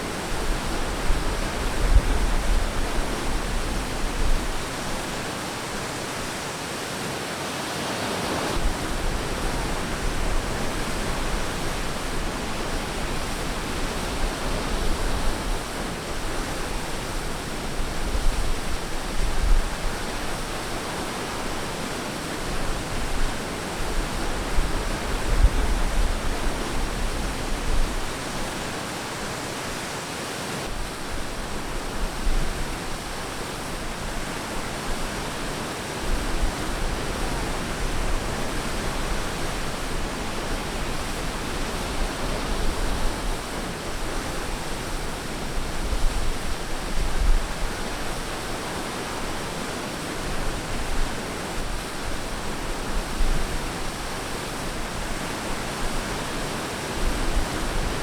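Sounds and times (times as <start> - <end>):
surf washing onto beach: 0.0 - 58.0.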